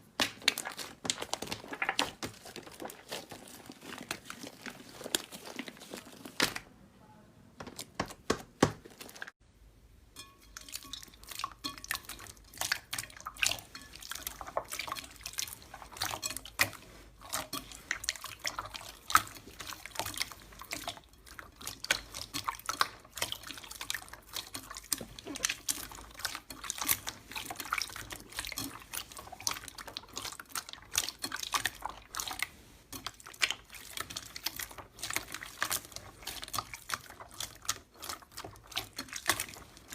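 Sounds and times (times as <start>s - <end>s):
slime squelching by hand: 0.0s - 6.7s, 7.6s - 9.4s, 10.4s - 39.9s.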